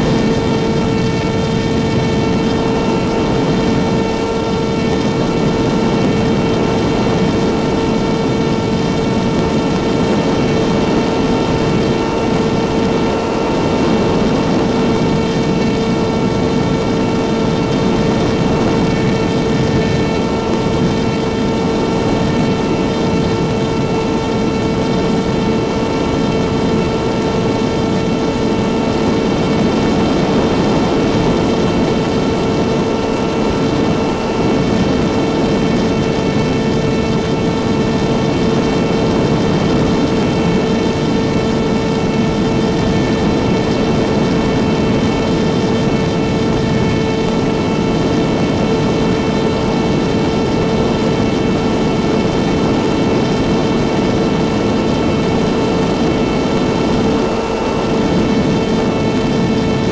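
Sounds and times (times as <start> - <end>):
model airplane motor whine: 0.0 - 59.9.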